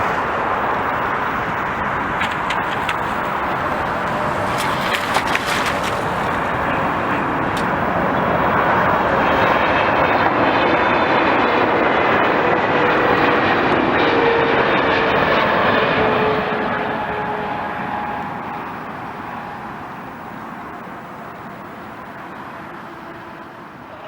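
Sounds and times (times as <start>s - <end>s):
airliner engines roaring: 0.0s - 24.0s.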